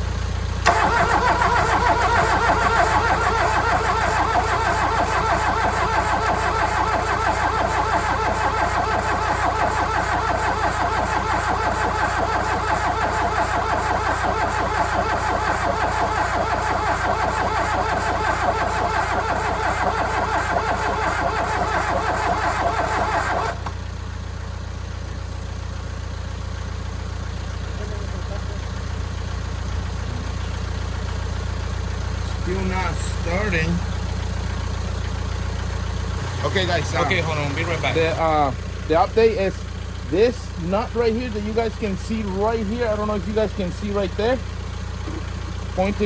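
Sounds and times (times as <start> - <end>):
diesel engine cranking: 0.0 - 46.0.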